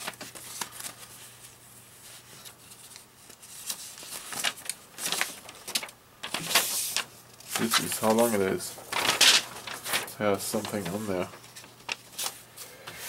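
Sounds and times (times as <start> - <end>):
paper rustling: 0.0 - 12.6
faint steady hum: 0.0 - 13.0.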